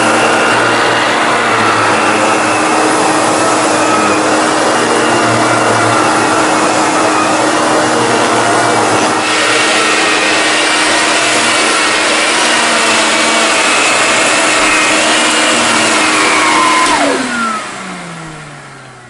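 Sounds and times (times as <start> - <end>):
motor winding down: 0.0 - 19.0
vacuum cleaner whining: 0.0 - 19.0.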